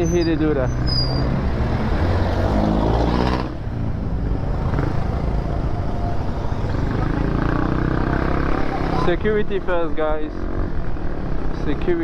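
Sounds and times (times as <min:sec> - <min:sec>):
wind and road noise: 0:00.0 - 0:12.0
motorcycle engine: 0:00.9 - 0:12.0.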